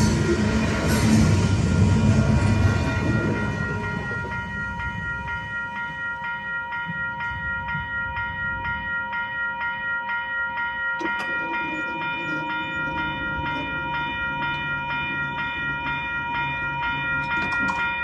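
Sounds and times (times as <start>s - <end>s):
railroad crossing bell ringing: 0.0s - 18.0s
train rumbling: 0.0s - 18.0s.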